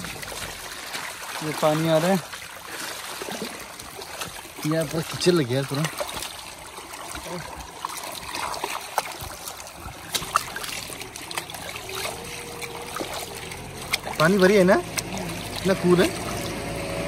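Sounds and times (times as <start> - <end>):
hand splashing in water: 0.0 - 16.8
shallow water trickling: 0.0 - 17.0.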